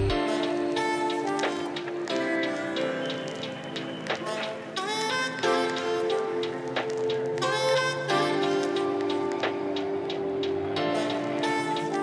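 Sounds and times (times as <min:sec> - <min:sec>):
background music with light beat: 0:00.0 - 0:12.0.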